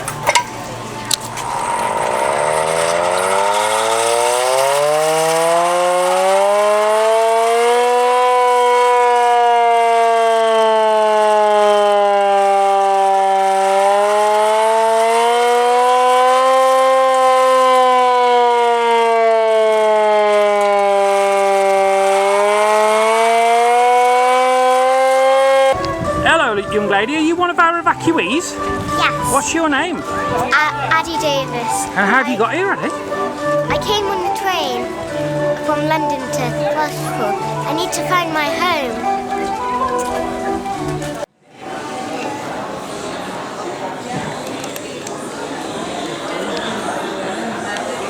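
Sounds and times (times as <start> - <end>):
air-raid siren wailing: 0.0 - 41.2.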